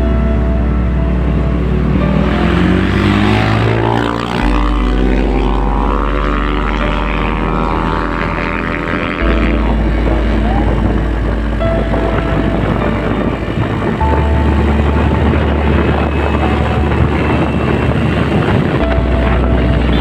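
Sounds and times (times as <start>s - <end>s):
deep low drone: 0.0s - 20.0s
propeller engines running: 1.1s - 20.0s.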